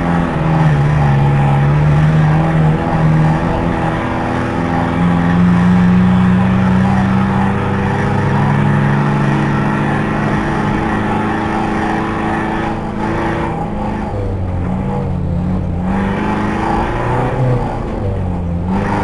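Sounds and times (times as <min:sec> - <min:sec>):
van engine revving high: 0:00.0 - 0:19.0.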